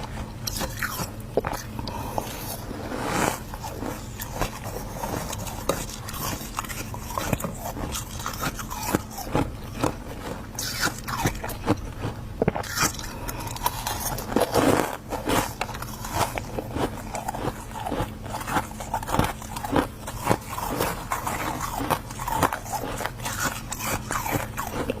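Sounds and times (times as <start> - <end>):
crunching and chewing frost: 0.0 - 25.0.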